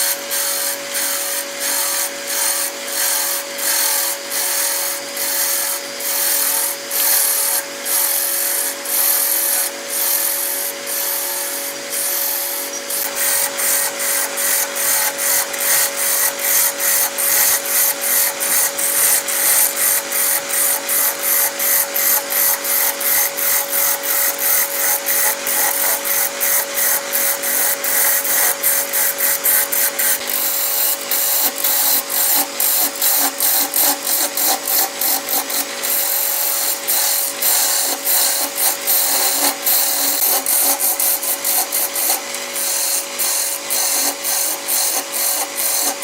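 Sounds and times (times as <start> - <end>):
lathe humming: 0.0 - 46.0
tool scraping wood on lathe: 0.0 - 46.0.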